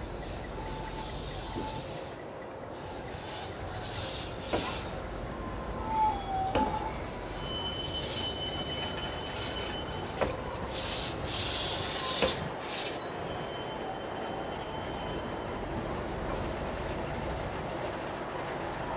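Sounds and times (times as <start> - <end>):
train wheels squealing on rails: 0.0 - 18.9.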